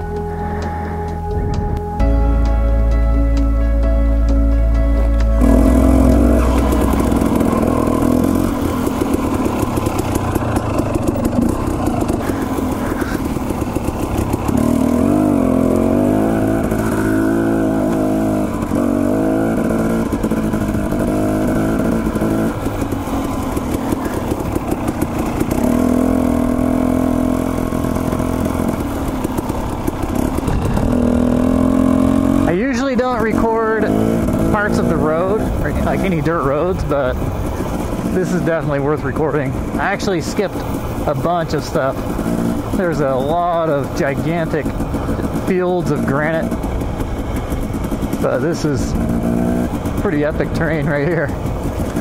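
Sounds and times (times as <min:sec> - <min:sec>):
dirt bike engine revving: 0:05.0 - 0:52.0.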